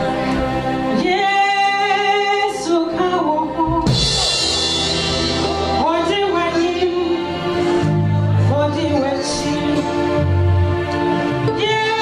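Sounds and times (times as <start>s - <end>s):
drums: 0.0s - 12.0s.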